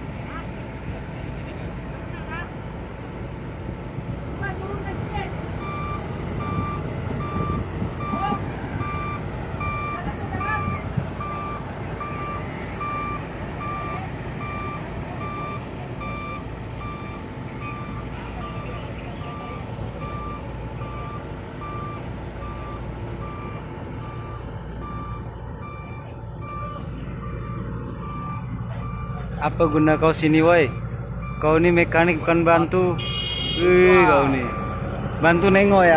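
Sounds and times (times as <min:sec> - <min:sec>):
diesel engine rumbling: 0:00.0 - 0:35.9
reversing alarm beeping: 0:05.6 - 0:35.9.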